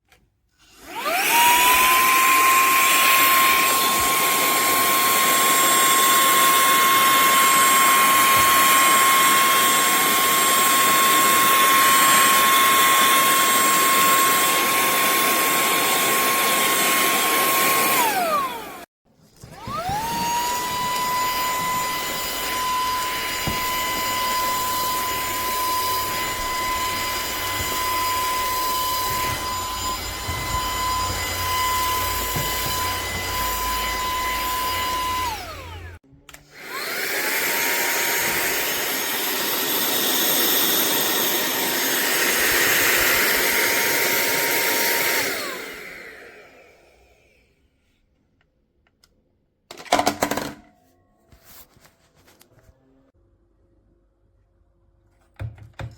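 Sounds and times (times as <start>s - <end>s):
handheld vacuum whining: 0.6s - 47.7s, 49.7s - 50.6s.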